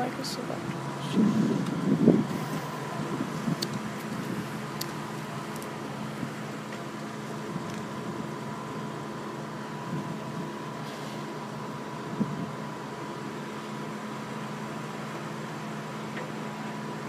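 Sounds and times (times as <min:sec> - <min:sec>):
car wash machinery hum: 0:00.0 - 0:17.0
thin steady whine: 0:00.0 - 0:17.0.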